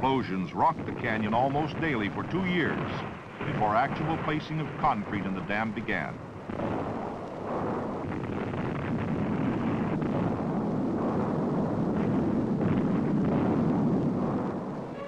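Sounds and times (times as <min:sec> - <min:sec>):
rock blast rumbling roar: 0:00.7 - 0:15.0.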